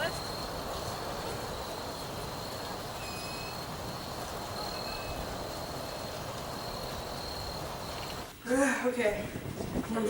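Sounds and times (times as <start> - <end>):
faint high whine: 0.0 - 8.4
rumbling hiss: 0.0 - 10.0.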